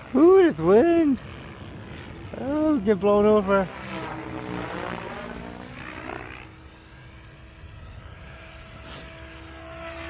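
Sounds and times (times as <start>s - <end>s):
rc helicopter rotor whine: 0.0s - 10.0s
wind rumbling on microphone: 0.0s - 10.0s.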